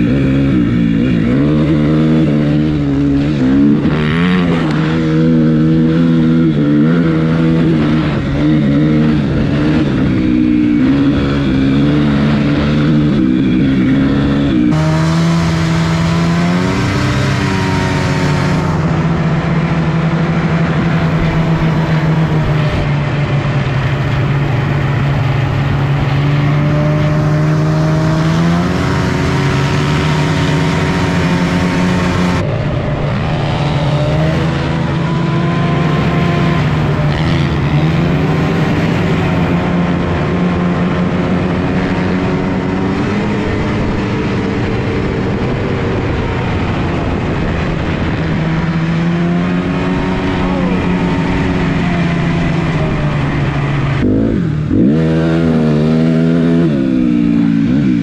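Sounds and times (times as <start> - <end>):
engine running at high revs: 0.0 - 58.0.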